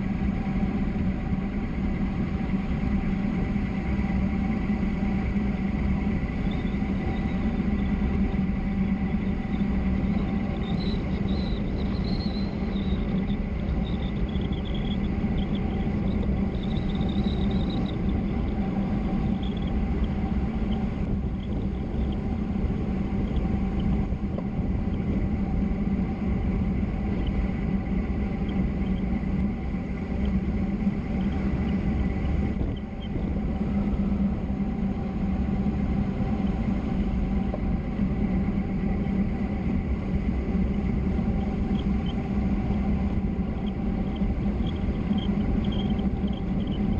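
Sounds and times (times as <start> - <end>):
road and wind noise: 0.0 - 46.9
steady hum: 0.0 - 46.9.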